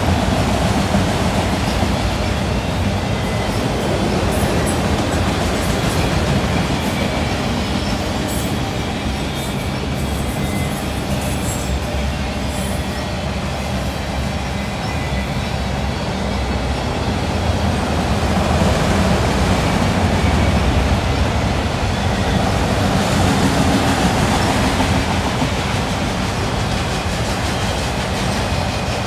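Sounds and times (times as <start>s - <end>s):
steel train wheels on rails: 0.0s - 29.0s.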